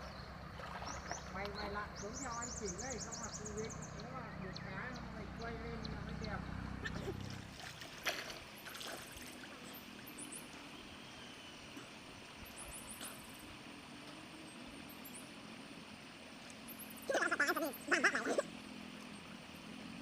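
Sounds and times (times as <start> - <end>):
faint water noise: 0.0 - 20.0.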